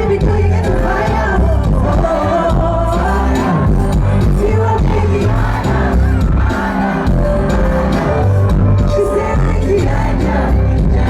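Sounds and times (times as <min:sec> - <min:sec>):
loud live concert music: 0:00.0 - 0:11.0.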